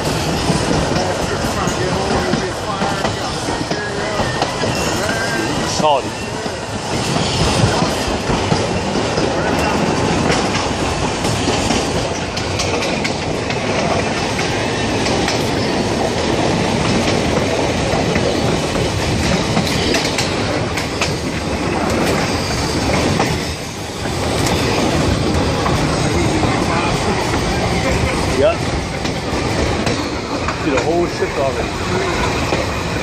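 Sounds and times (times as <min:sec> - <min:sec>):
streetcar wheels clattering: 0:00.0 - 0:33.0.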